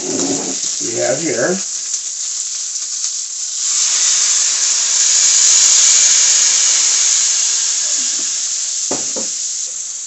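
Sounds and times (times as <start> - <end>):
wine hissing in hot skillet: 0.0 - 10.0.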